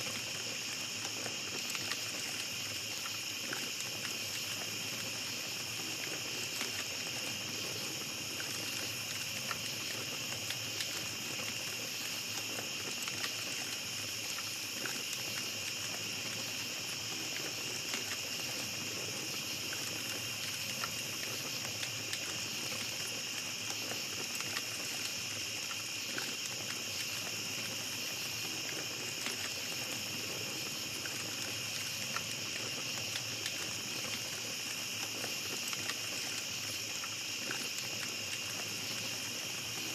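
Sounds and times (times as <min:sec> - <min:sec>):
campfire crackling: 0:00.0 - 0:39.9
night insects chorus: 0:00.0 - 0:39.9.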